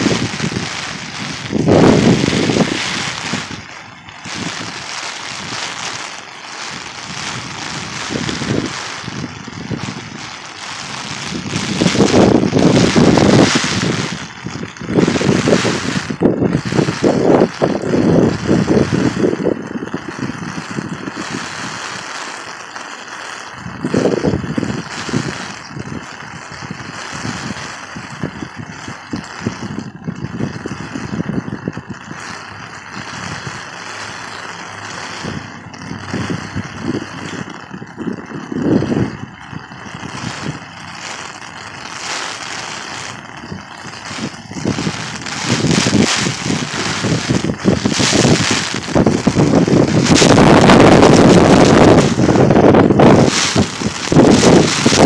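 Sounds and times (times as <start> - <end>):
wind buffeting the microphone: 0.0 - 22.1, 23.5 - 55.0
heavy rain on a street: 0.0 - 55.0.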